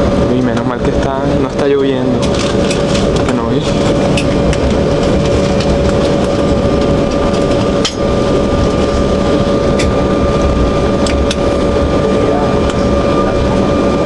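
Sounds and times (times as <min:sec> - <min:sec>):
aircraft cabin engine hum: 0:00.0 - 0:14.0
low rumble: 0:00.0 - 0:14.0.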